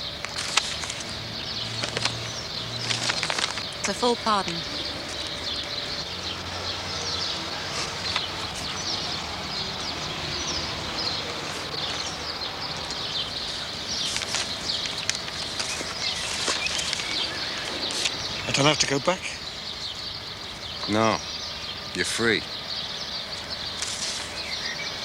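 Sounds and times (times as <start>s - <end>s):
bird chirps: 0.0s - 25.0s.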